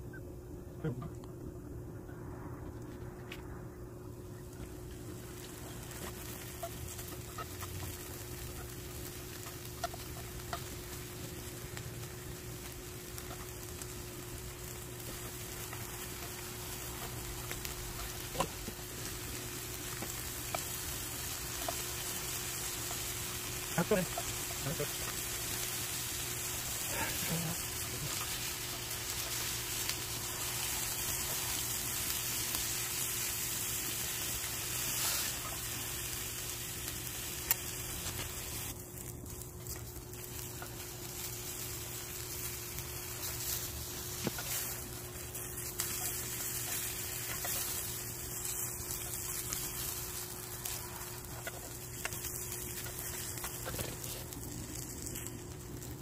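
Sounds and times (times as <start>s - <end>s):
meat sizzling in a frying pan: 4.5s - 56.0s.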